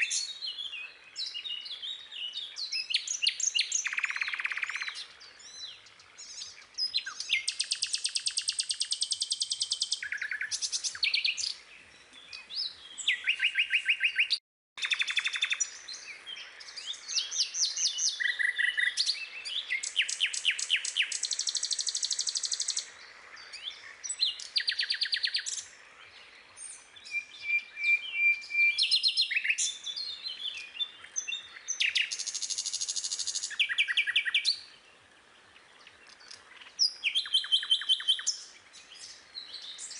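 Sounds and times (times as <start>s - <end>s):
songbird trilling and chirping: 0.0s - 39.9s.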